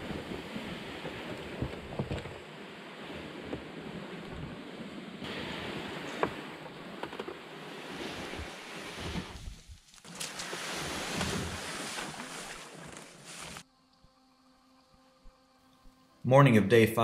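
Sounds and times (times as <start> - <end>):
moving water: 0.0 - 13.6.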